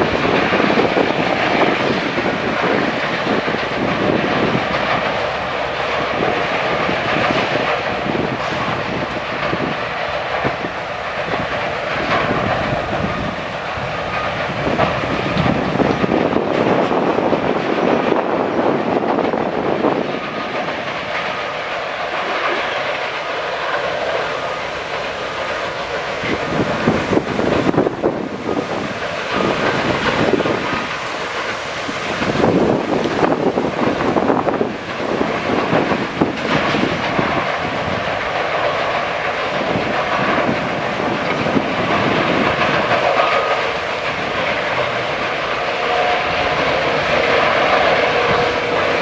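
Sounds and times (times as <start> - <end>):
sawmill machinery rumble and clatter: 0.0 - 49.0.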